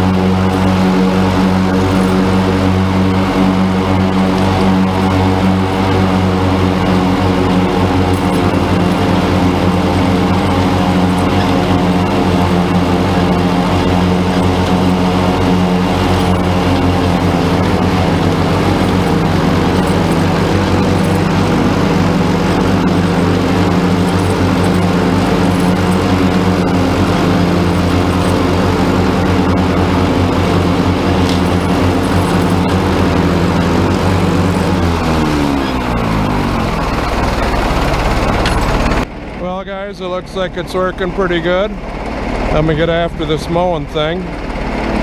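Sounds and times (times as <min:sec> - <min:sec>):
rotary mower: 0:00.0 - 0:45.0
tractor engine running under load: 0:00.0 - 0:45.0.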